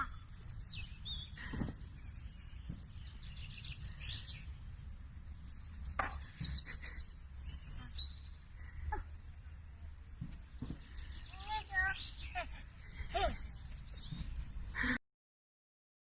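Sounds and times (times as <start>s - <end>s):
low background rumble: 0.0s - 14.9s
birds chirping: 0.0s - 15.0s.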